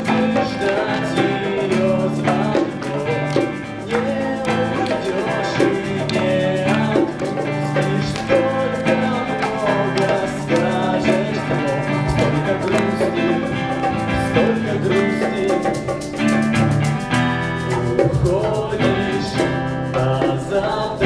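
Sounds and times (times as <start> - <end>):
guitar song: 0.0 - 21.0.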